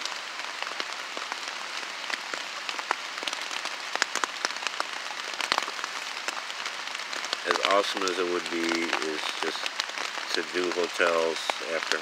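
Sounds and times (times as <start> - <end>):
rain hissing: 0.0 - 12.0
raindrops hitting a tarp: 0.0 - 12.0.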